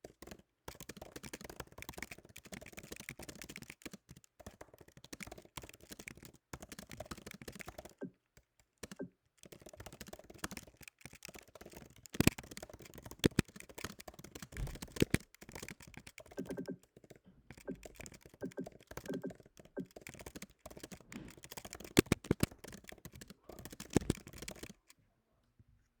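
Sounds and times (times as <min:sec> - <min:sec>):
fast typing on computer keyboard: 0:00.0 - 0:25.0.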